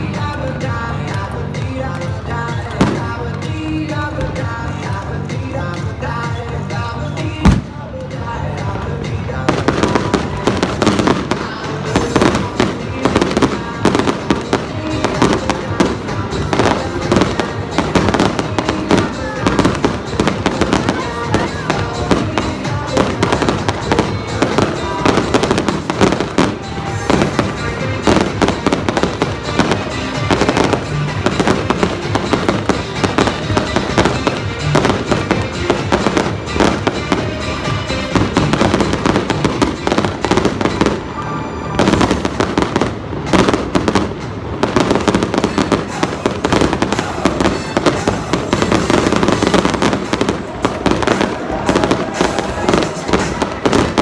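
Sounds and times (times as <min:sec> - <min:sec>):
fireworks bursting and crackling: 0:00.0 - 0:54.0
loud music over loudspeakers: 0:00.0 - 0:54.0.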